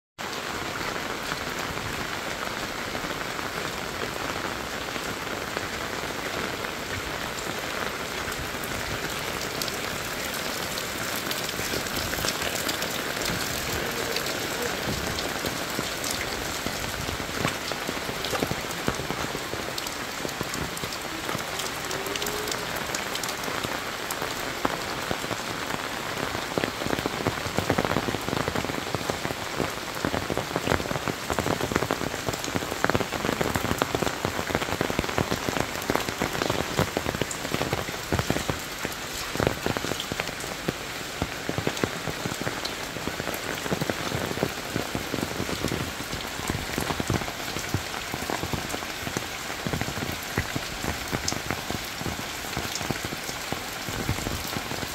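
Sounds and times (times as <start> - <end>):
steady rain falling: 0.2 - 54.9.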